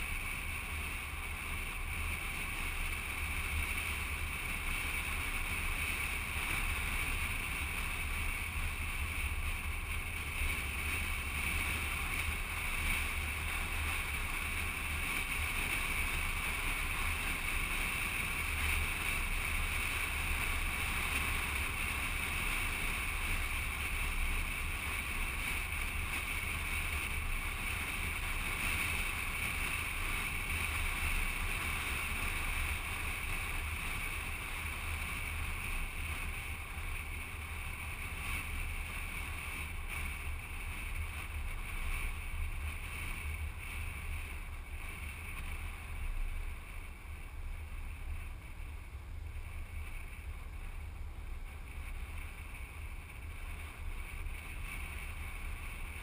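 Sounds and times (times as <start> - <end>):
vehicle low rumble: 0.0 - 56.0
wind rush on microphone: 0.0 - 56.0.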